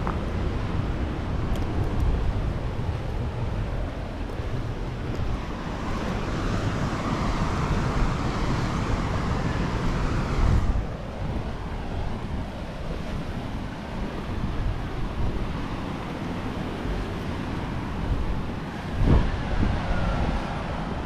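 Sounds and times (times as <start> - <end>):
steady rushing noise: 0.0 - 21.0
wind rumbling on microphone: 0.0 - 21.0.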